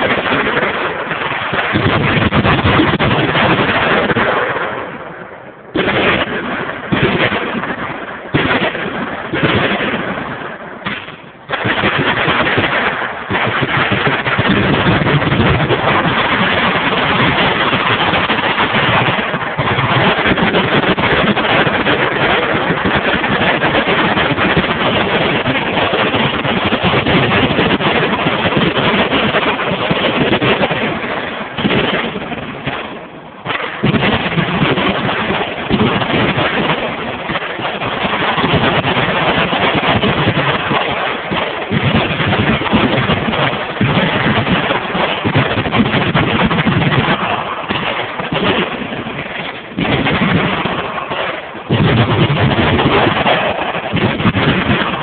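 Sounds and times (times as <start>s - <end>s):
machine gun fire: 0.0s - 5.0s, 5.7s - 55.0s
loud blasts: 0.0s - 55.0s.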